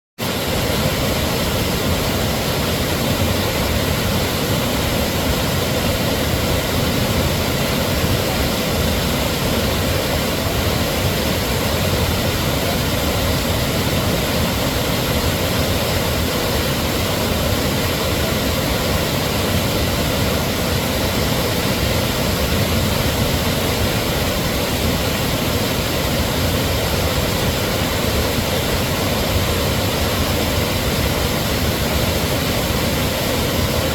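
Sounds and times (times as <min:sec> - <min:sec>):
waterfall roaring: 0:00.2 - 0:33.9.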